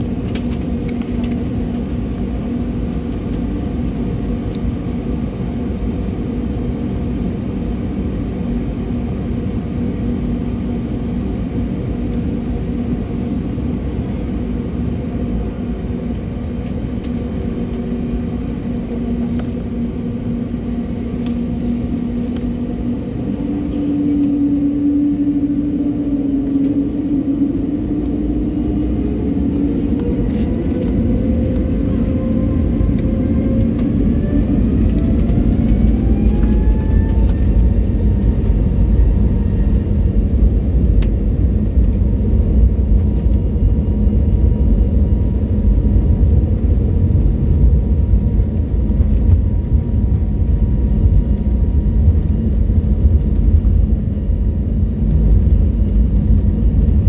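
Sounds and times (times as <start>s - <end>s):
deep engine rumble: 0.0s - 57.0s
jet engine whine: 0.0s - 57.0s.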